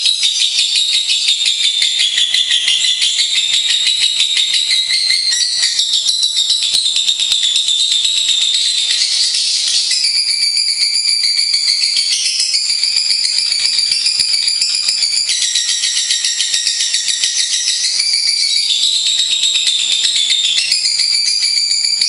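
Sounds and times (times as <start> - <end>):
lovebird chattering trills: 0.0 - 22.0.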